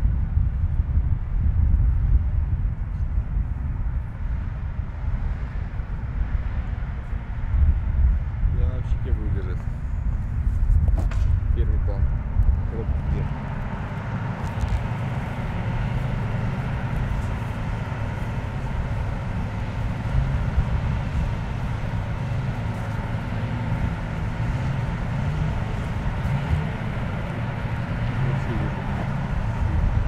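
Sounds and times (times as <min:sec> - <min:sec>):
truck engines humming: 0:01.6 - 0:30.0.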